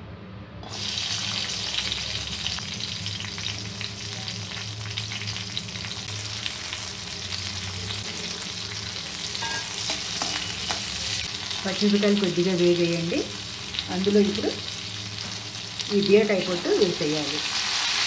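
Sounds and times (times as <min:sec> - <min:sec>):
chillies sizzling in hot oil: 0:00.6 - 0:18.0.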